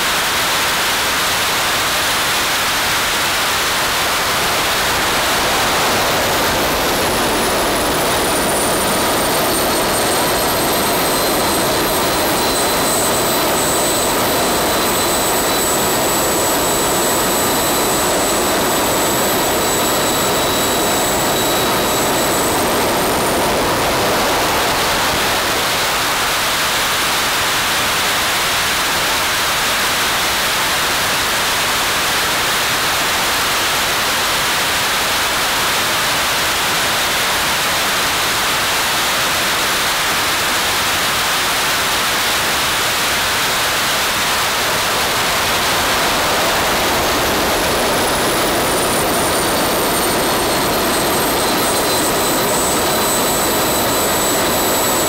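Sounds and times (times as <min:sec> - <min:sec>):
turbojet engine whine: 0:00.2 - 0:55.0.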